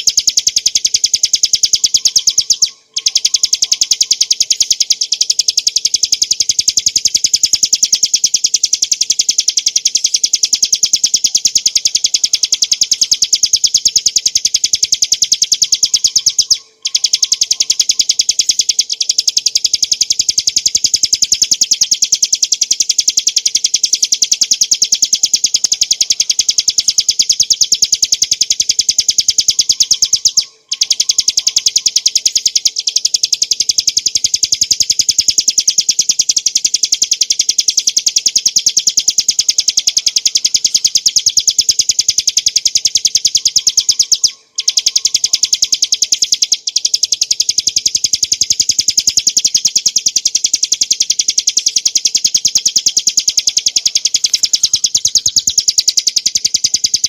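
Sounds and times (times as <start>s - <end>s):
bird singing fast trill: 0.0s - 57.0s.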